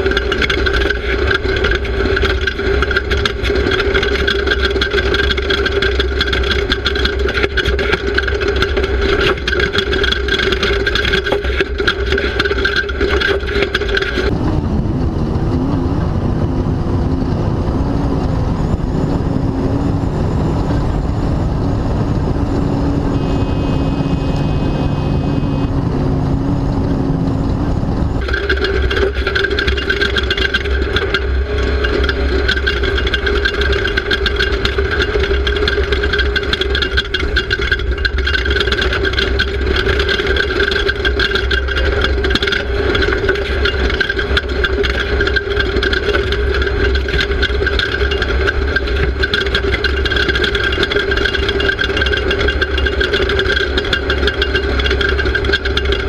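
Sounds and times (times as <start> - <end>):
race vehicle engine running: 0.0 - 56.0.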